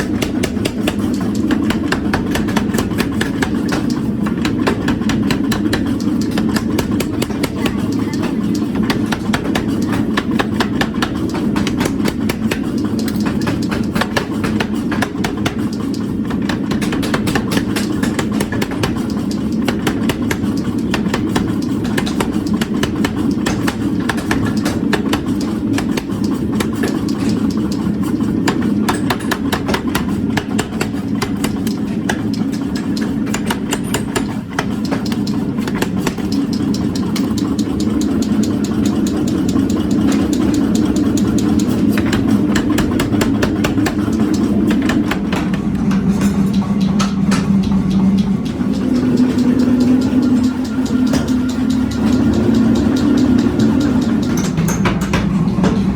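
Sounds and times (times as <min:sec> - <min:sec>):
power hammer striking: 0:00.0 - 0:55.9
steady machine drone: 0:00.0 - 0:55.9.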